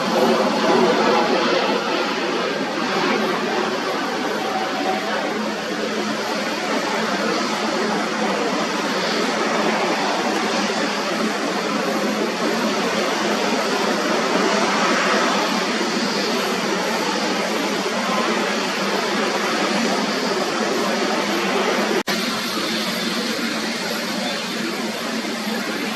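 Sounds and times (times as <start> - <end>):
jet engines rushing: 0.0 - 25.9.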